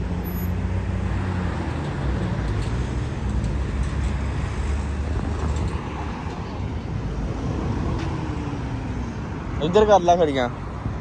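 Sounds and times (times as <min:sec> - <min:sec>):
road noise rushing: 0:00.0 - 0:11.0
vehicle engine hum: 0:00.0 - 0:11.0.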